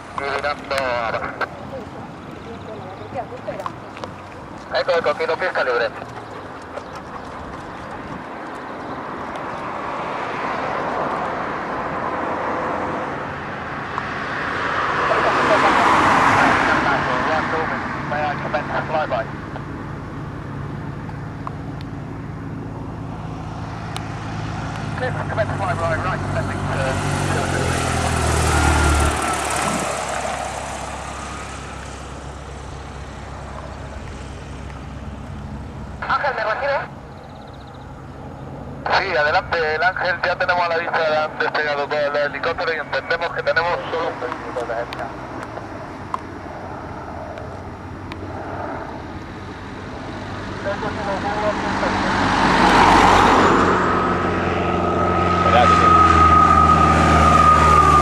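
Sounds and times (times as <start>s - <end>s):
aircraft engine: 0.0s - 58.0s.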